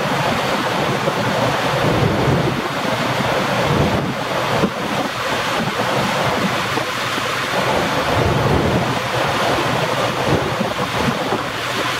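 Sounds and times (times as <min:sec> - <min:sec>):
water rushing: 0:00.0 - 0:11.9
wind buffeting microphone: 0:00.0 - 0:11.9.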